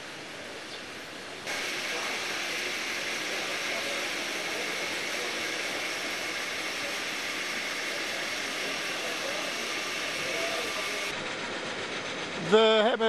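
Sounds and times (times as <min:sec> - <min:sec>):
steady hiss: 0:00.0 - 0:11.2.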